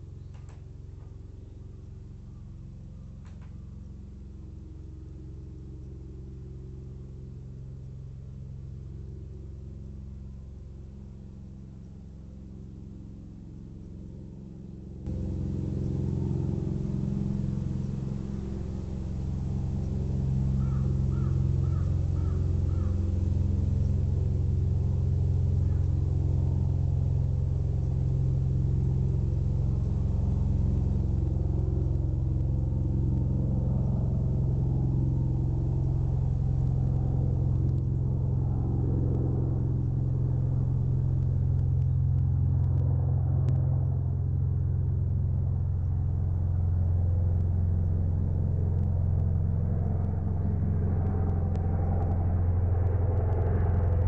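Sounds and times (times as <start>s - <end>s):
helicopter rotor rumble: 0.0s - 54.0s.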